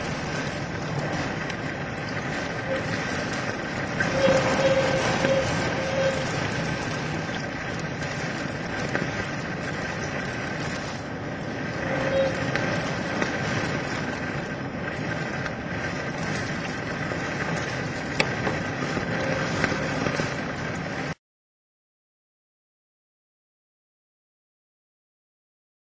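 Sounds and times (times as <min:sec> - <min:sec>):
breaking waves: 0:00.0 - 0:21.2
wind blowing across microphone: 0:00.0 - 0:21.2.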